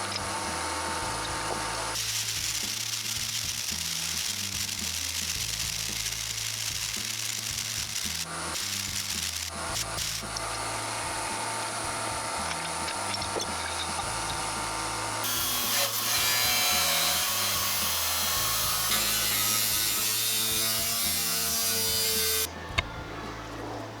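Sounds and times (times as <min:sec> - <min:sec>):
power tool grinding: 0:00.0 - 0:22.5.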